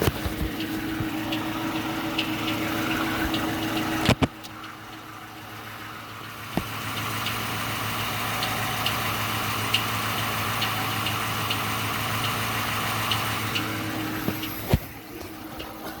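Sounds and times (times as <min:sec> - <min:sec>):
car engine idling: 0:00.0 - 0:16.0
engine knock: 0:00.0 - 0:16.0
engine ticking: 0:00.0 - 0:16.0.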